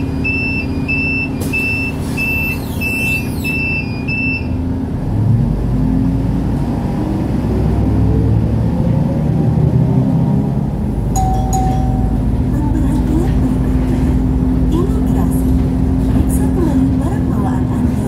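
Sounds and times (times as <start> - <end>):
diesel bus engine rumble: 0.0 - 18.0.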